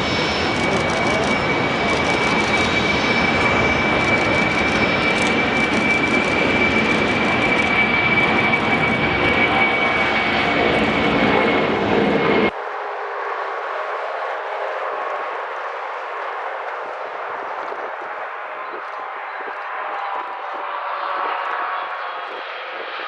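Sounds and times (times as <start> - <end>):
jet engines roaring with whine: 0.0 - 23.0.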